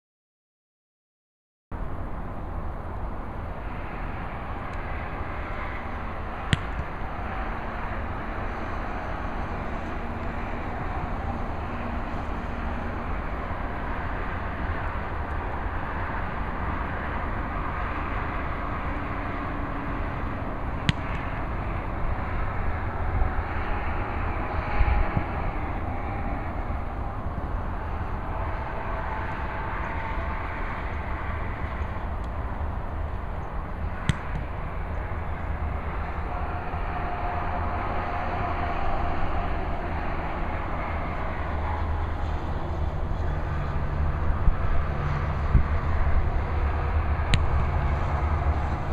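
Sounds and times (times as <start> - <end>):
road traffic noise: 1.8 - 48.9.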